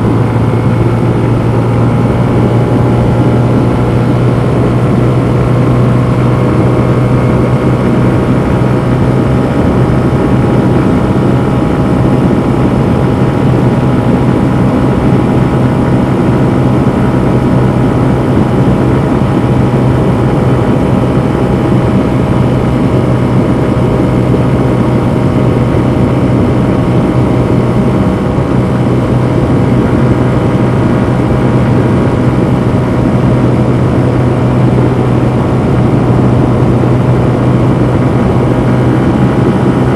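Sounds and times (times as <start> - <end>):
motorcycle engine under load: 0.0 - 39.9
wind and road noise: 0.0 - 39.9.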